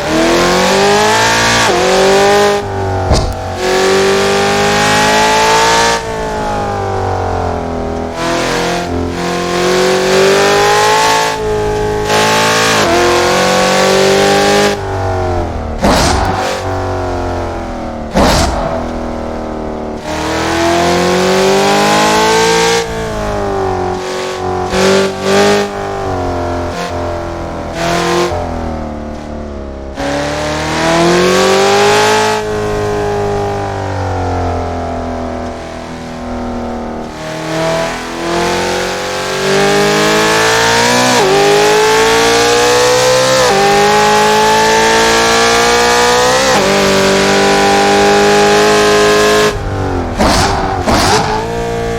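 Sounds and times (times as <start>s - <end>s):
car engine shifting gears: 0.0s - 51.9s
tyre and road noise: 0.0s - 51.9s.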